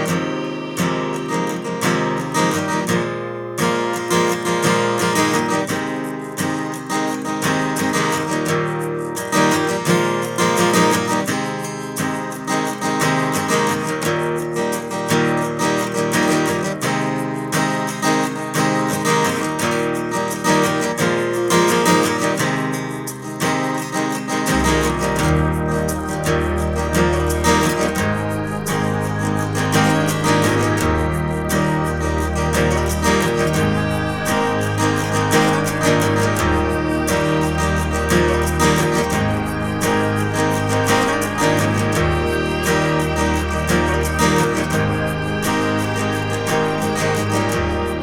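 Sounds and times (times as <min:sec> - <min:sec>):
strummed acoustic guitar: 0:00.0 - 0:48.0.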